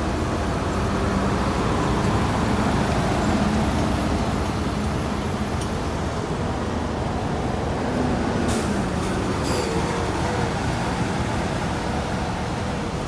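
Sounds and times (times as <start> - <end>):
dump truck engines rumbling: 0.0 - 13.0.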